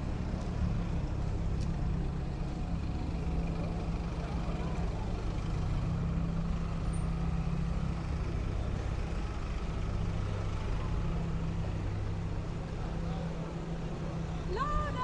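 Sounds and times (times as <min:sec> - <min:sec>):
city street traffic: 0:00.0 - 0:15.0
heavy vehicle engine humming: 0:00.0 - 0:15.0.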